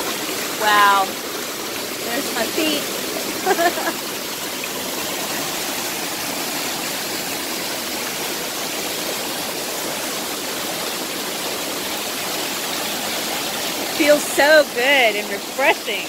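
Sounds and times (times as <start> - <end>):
waterfall splashing over rocks: 0.0 - 16.0.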